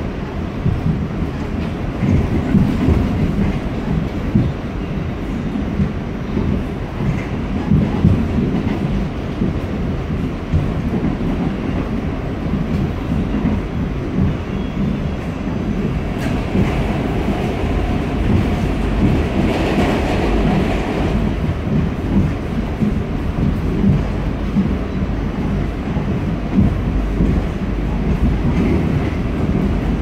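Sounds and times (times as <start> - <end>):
subway car wheels rumbling on rail: 0.0 - 30.0.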